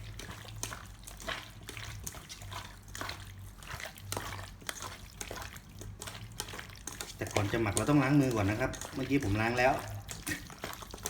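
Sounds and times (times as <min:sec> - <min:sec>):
hands squishing meat in marinade: 0:00.0 - 0:11.0.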